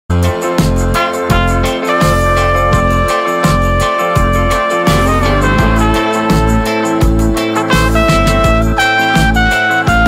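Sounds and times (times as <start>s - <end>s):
instrumental music with bass: 0.1s - 10.0s.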